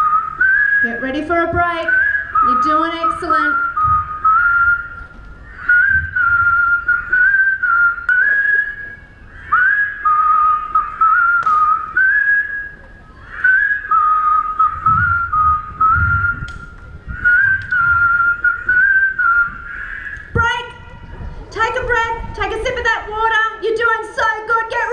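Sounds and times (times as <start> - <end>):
crowd whistling a tune: 0.0 - 20.4.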